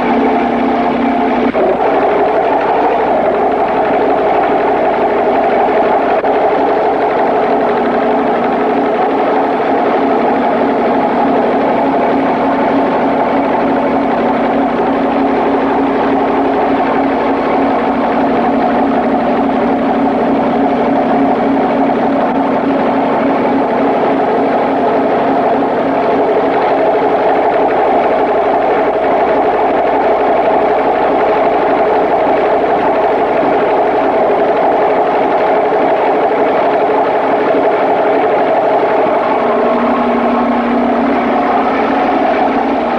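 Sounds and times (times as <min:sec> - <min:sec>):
engine droning: 0:00.0 - 0:42.9.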